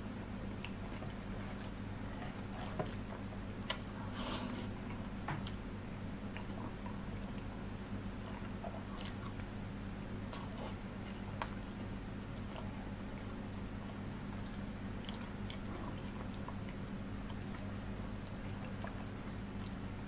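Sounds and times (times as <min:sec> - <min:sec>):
steady low hum: 0:00.0 - 0:20.0
person chewing food: 0:00.4 - 0:05.6, 0:06.2 - 0:20.0.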